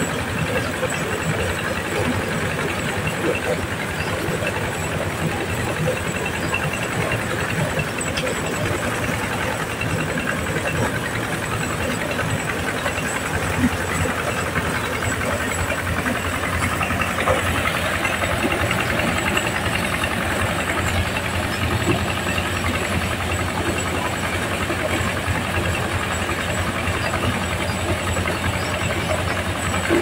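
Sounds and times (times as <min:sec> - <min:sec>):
diesel engine running: 0:00.0 - 0:30.0
corn cobs rattling in drum: 0:00.1 - 0:30.0.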